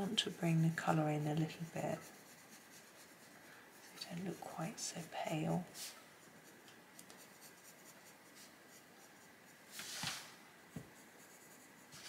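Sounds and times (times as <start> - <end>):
pencil scratching on paper: 0.0 - 10.2, 10.8 - 12.0.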